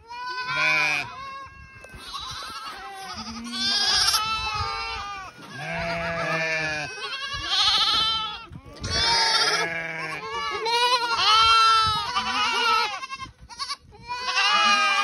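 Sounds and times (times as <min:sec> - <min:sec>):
goat kids bleating: 0:00.0 - 0:15.0.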